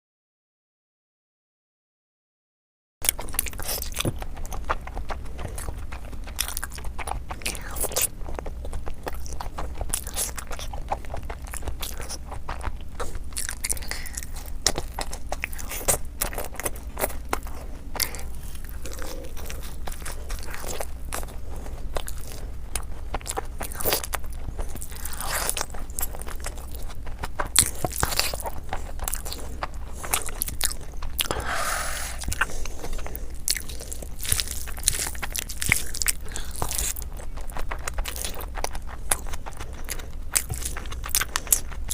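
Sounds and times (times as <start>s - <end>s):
low steady hum: 3.0s - 41.9s
person chewing food: 3.0s - 41.9s.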